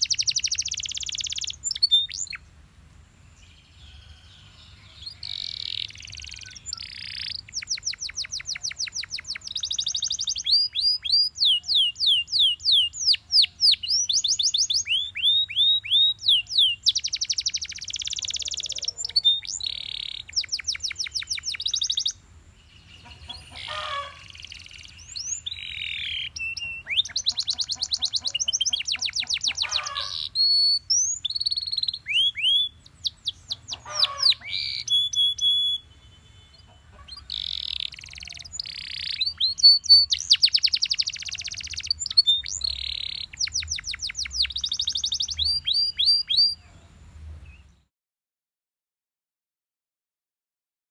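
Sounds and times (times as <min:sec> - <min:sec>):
canary singing trills: 0:00.0 - 0:02.5, 0:03.4 - 0:47.8.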